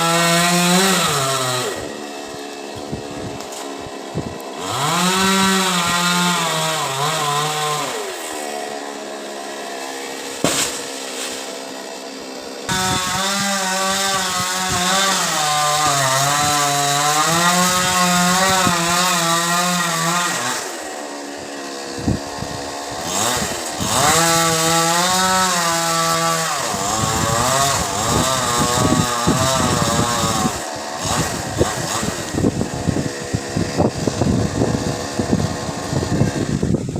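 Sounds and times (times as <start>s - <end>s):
chainsaw cutting wood: 0.0s - 36.9s.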